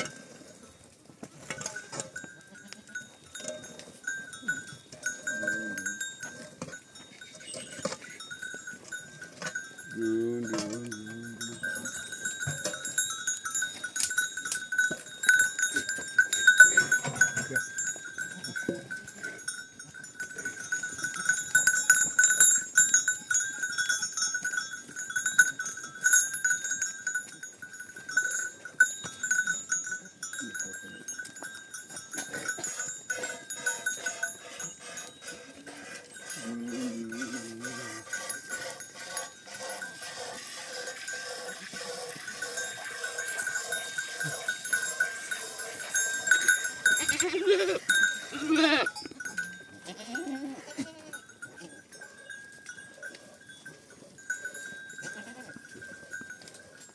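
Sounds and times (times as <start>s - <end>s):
livestock bells clanking: 0.0s - 56.9s.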